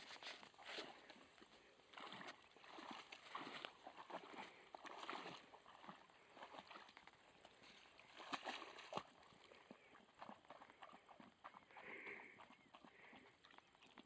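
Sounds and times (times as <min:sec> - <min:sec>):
sloshing in muddy puddle: 0:00.0 - 0:14.0.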